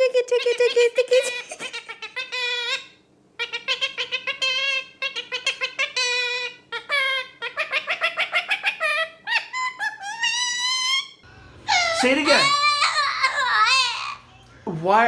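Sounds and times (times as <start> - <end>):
parrot chattering: 0.0 - 14.5.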